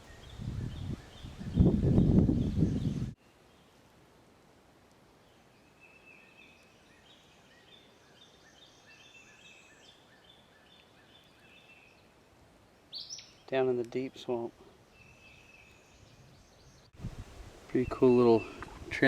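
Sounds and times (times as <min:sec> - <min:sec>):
swamp background: 0:00.0 - 0:19.0.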